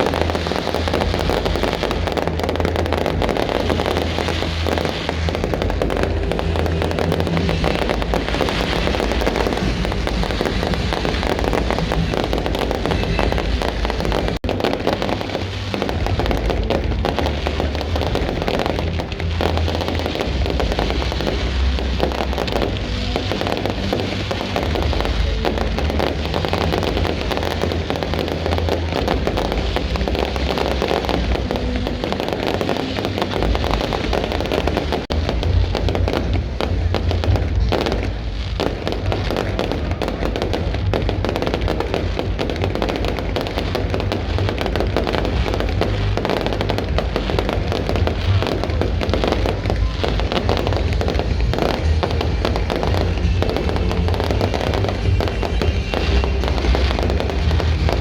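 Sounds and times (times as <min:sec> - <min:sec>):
fireworks booming and crackling: 0:00.0 - 0:58.0
music playing: 0:00.0 - 0:58.0.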